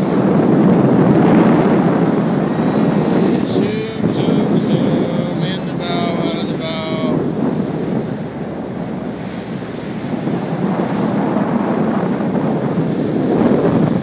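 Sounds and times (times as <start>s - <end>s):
bow wave rushing and splashing: 0.0s - 14.0s
wind buffeting microphone: 0.0s - 14.0s.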